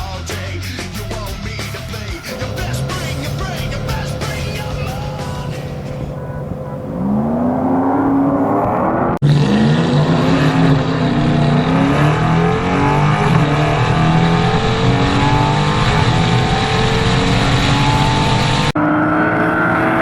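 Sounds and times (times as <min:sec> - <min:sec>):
engines racing at full throttle: 0:02.2 - 0:20.0.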